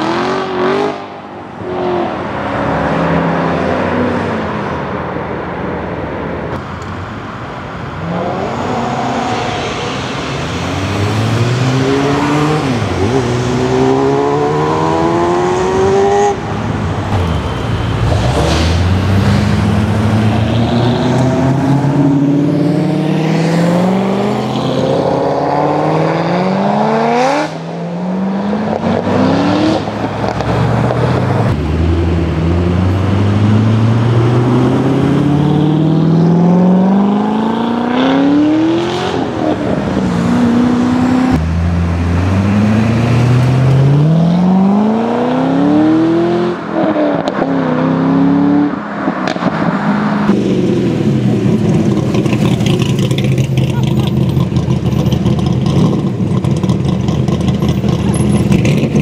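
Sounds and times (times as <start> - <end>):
car engines accelerating: 0.0 - 59.0.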